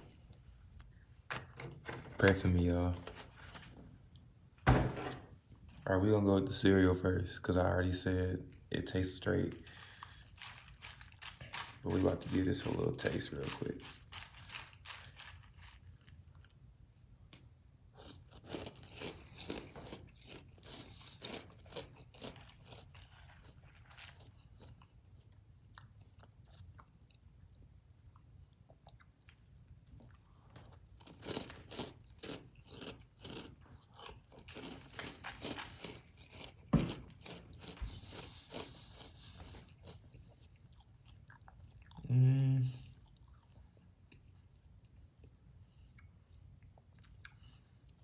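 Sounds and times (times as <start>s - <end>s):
chewing crunchy cereal: 7.9s - 42.1s, 42.8s - 48.0s.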